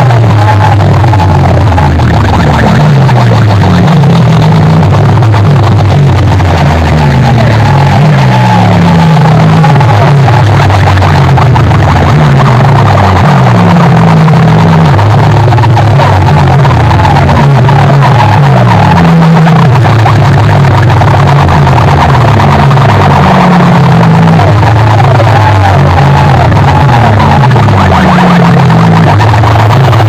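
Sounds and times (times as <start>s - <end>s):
loud electronic dance music: 0.0s - 30.0s.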